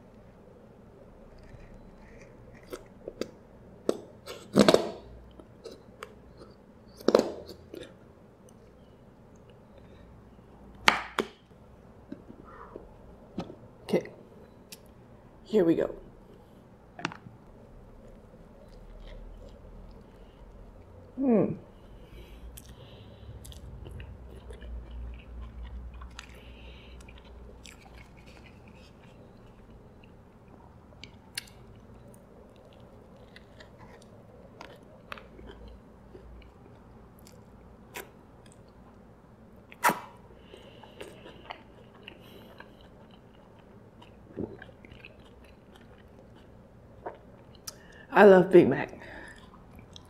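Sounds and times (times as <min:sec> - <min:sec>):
person chewing food: 0:01.0 - 0:13.7, 0:16.2 - 0:48.1, 0:49.0 - 0:50.0.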